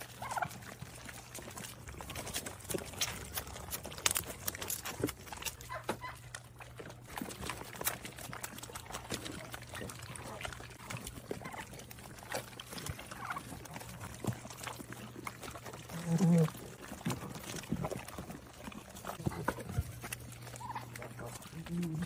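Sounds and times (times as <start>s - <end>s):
goats chewing wetly: 0.0s - 22.0s.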